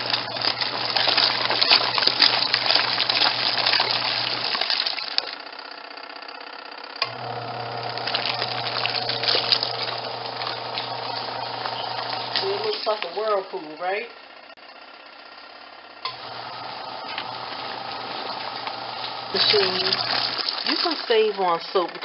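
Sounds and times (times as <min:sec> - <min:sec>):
water and laundry sloshing: 0:00.0 - 0:05.4, 0:07.2 - 0:14.0, 0:16.2 - 0:22.0
washing machine motor hum: 0:00.0 - 0:22.0.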